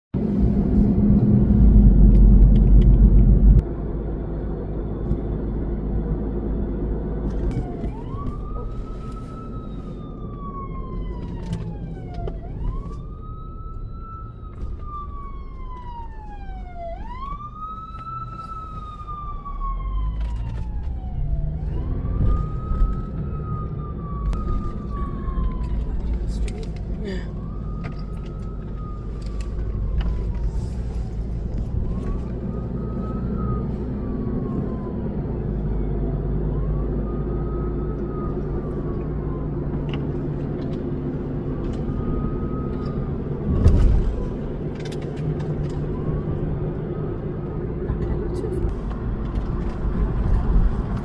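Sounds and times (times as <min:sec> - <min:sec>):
low vehicle rumble: 0:00.1 - 0:51.0
fire engine siren wailing: 0:00.2 - 0:51.0.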